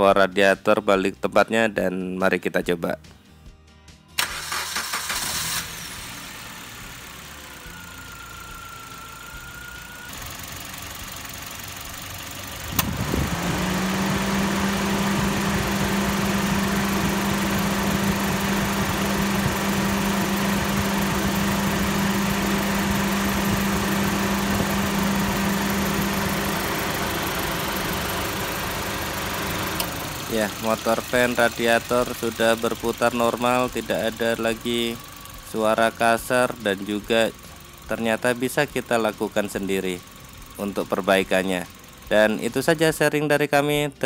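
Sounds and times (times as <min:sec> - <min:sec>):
car engine idling: 0:04.2 - 0:43.9
electric radiator fan humming: 0:06.8 - 0:42.9.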